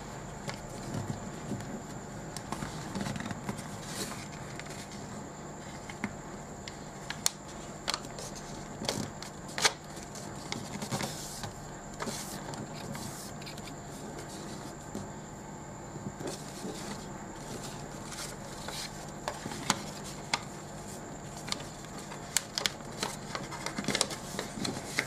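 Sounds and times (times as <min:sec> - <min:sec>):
paper rustling and crinkling: 0:00.4 - 0:15.0, 0:16.1 - 0:25.0.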